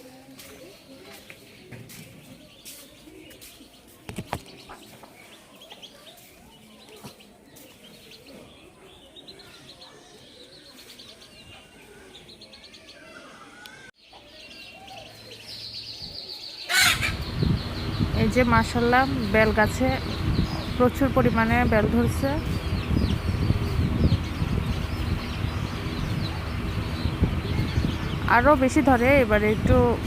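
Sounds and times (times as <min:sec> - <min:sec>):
small birds chirping and trilling: 0:00.0 - 0:30.0.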